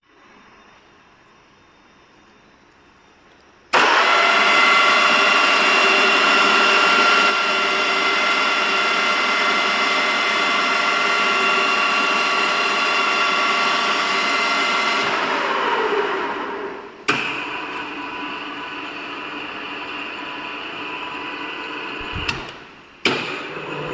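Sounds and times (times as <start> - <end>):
milling machine whining: 3.7 - 23.9.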